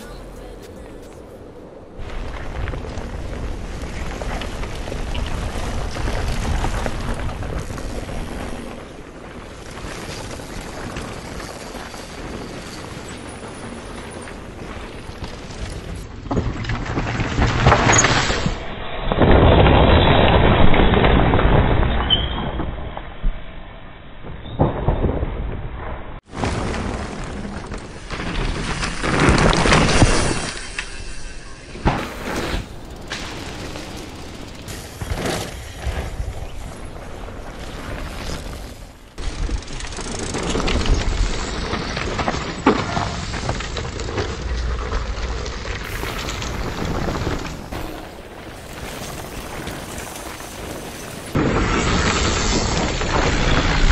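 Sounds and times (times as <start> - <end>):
bike tyres rolling over dirt: 2.0 - 23.0, 26.2 - 53.9.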